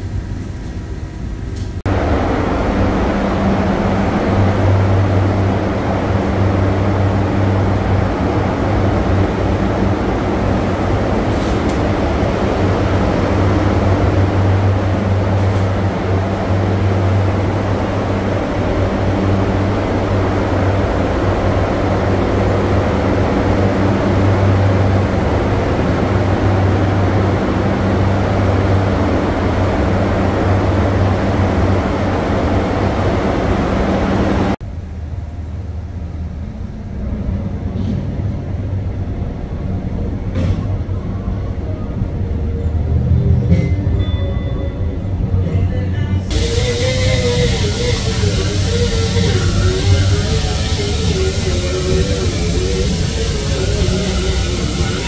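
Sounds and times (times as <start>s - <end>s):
ventilation fans droning: 0.0s - 55.0s.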